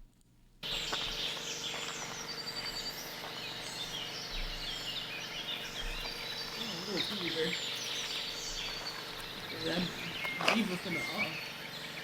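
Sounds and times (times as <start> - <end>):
steady background hiss: 0.6 - 12.0
bird chirps and whistles: 0.7 - 12.0.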